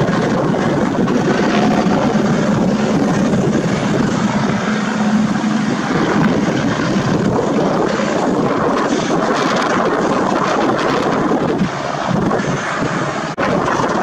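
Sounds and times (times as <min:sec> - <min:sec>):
helicopter flying past: 0:00.0 - 0:14.0
low hum: 0:00.0 - 0:14.0.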